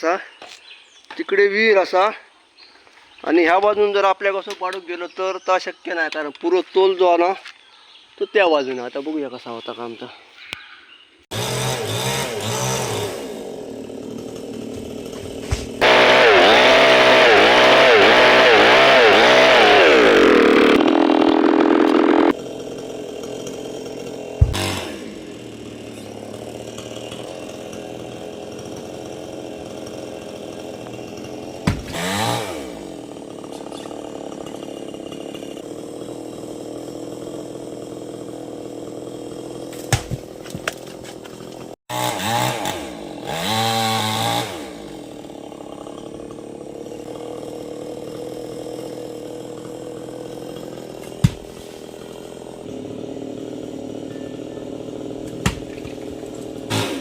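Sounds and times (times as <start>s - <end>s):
chainsaw cutting wood: 11.3s - 57.0s
chainsaw idling: 11.3s - 57.0s
chainsaw revving: 11.3s - 57.0s.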